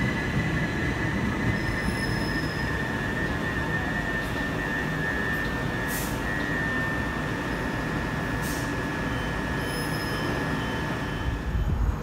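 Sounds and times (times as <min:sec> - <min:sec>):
electric train running: 0:00.0 - 0:12.0.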